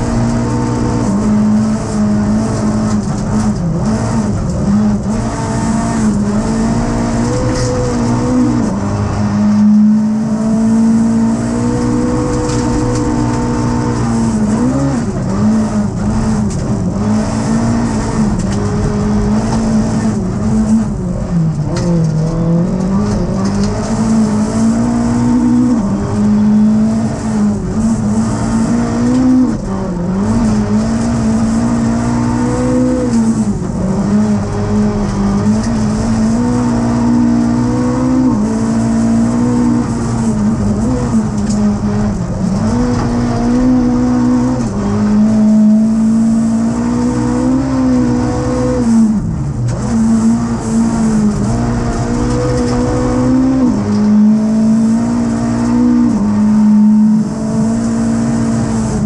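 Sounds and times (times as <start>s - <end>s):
rally car engine running hard: 0.0s - 59.0s.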